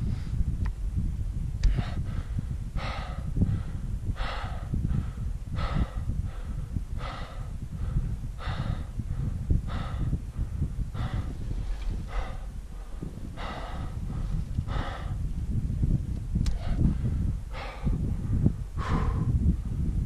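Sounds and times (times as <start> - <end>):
steady low rumble: 0.0 - 20.0
person breathing hard: 1.6 - 15.5, 16.4 - 19.8.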